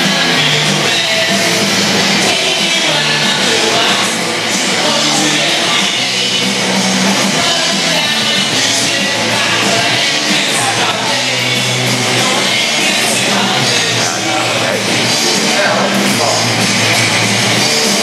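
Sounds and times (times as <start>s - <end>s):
person singing: 0.0s - 16.6s
punk rock band playing: 0.0s - 18.0s.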